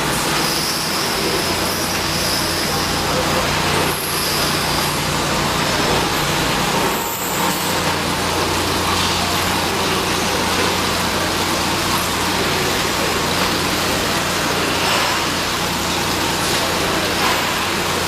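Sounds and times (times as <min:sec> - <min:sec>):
milling machine running: 0:00.0 - 0:18.0.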